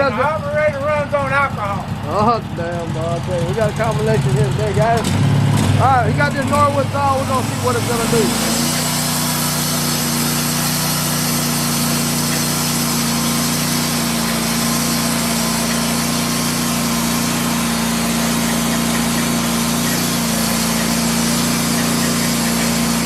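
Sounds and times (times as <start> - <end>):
gasoline engine running: 0.0 - 23.0
band saw blade sawing log: 3.2 - 23.0.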